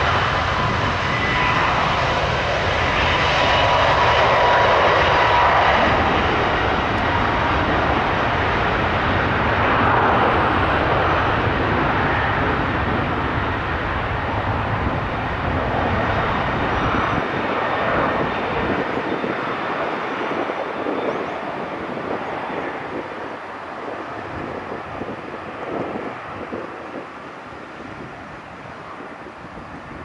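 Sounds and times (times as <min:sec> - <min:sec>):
jet engines roaring at takeoff: 0:00.0 - 0:30.0.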